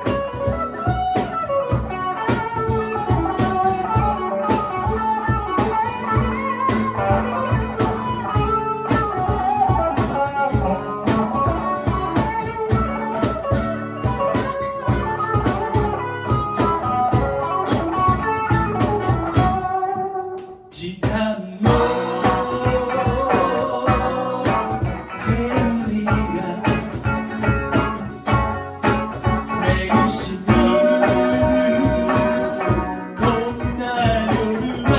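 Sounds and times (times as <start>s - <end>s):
live band playing: 0.0s - 20.5s, 21.6s - 34.9s.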